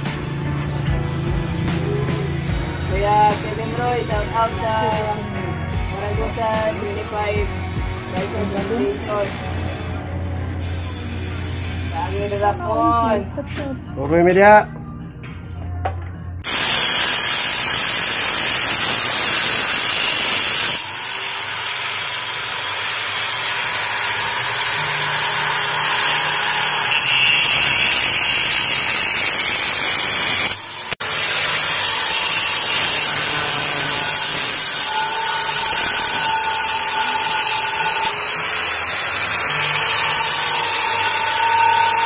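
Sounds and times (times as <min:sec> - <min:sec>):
angle grinder cutting metal: 0:00.0 - 0:12.7, 0:16.4 - 0:42.0.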